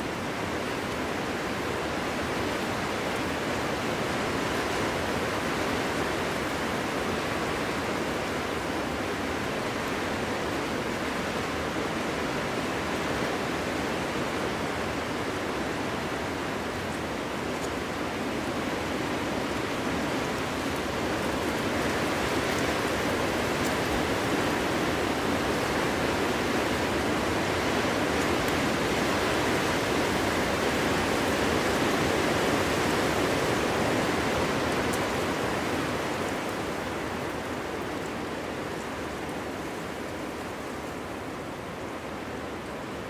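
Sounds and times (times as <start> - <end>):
wind rushing through forest: 0.0 - 43.0.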